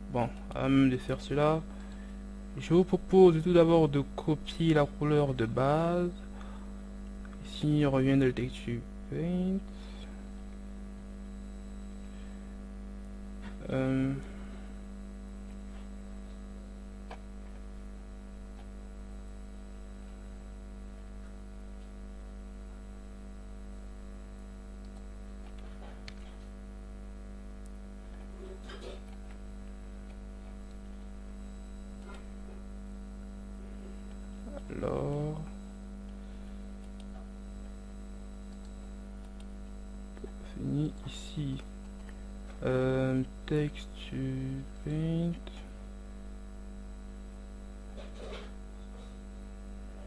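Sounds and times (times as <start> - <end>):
electrical mains hum: 0.0 - 50.0.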